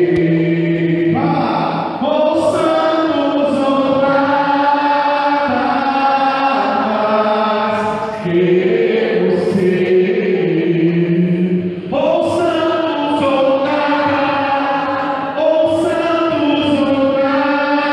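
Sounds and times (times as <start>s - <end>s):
voices singing a slow chant: 0.0s - 17.9s.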